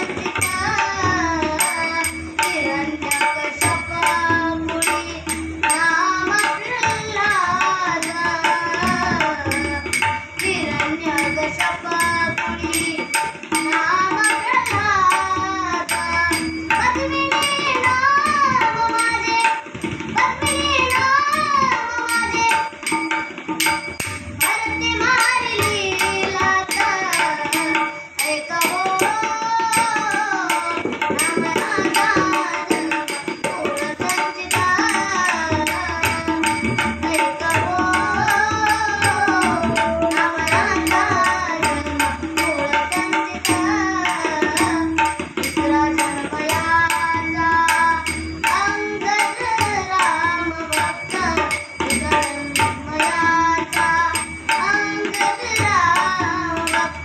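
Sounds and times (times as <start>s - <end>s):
drumming in even rhythm: 0.0s - 57.0s.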